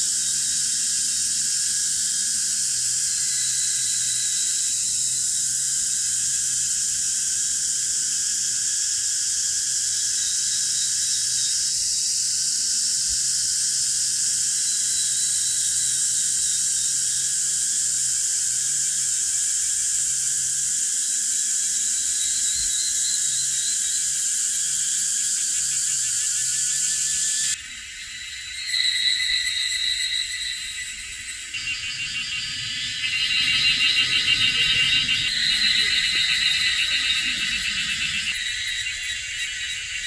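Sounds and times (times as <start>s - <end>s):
faint insect trill: 0.0s - 40.0s
insect chorus hiss: 0.0s - 40.0s.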